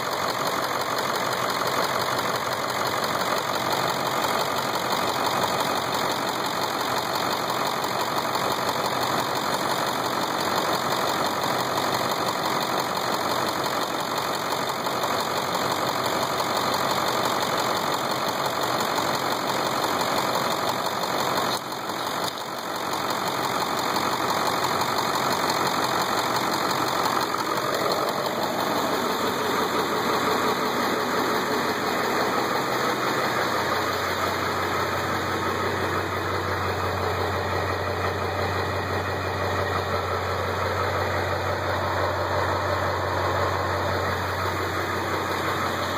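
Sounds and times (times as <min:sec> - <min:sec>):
diesel engine idling with clatter: 0:00.0 - 0:45.9.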